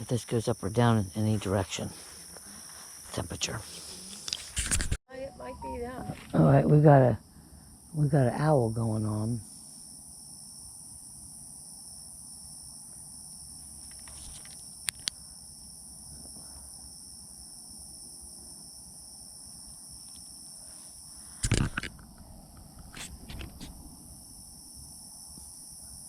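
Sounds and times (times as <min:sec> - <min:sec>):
crickets and katydids trilling: 0:00.0 - 0:04.6, 0:05.4 - 0:26.0.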